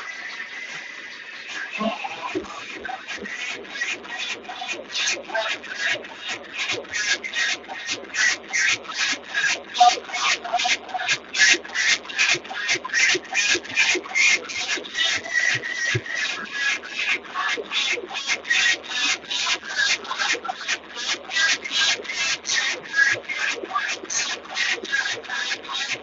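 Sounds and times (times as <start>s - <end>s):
rhythmic rasping strokes: 0.0s - 26.0s.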